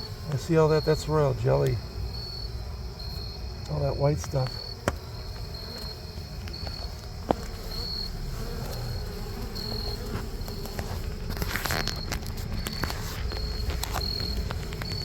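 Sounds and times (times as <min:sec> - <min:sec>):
crickets chirping: 0:00.0 - 0:15.0
honeybees buzzing: 0:00.0 - 0:15.0.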